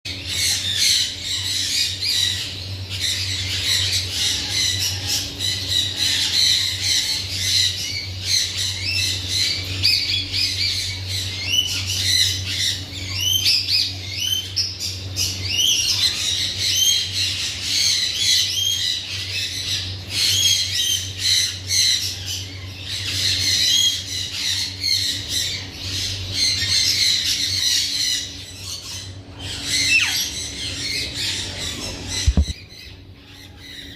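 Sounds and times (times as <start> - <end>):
parakeet squawking: 0.1 - 33.9.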